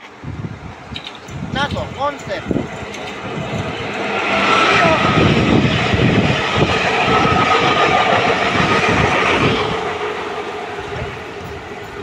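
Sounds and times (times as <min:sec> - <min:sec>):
faint train whine: 0:00.0 - 0:12.0
train wheels rumbling and clattering: 0:00.0 - 0:12.0.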